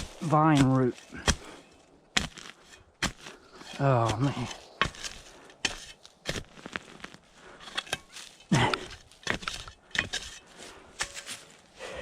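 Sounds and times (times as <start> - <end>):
digging tool chopping soil: 0.0 - 11.4.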